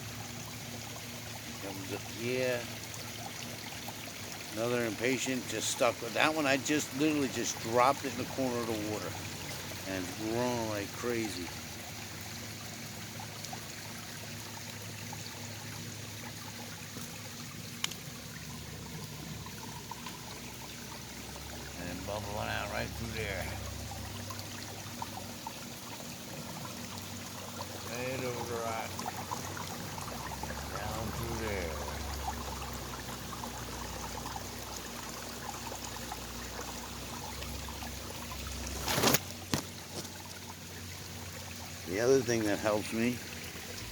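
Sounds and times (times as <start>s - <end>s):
water splashing over rocks: 0.0s - 43.9s.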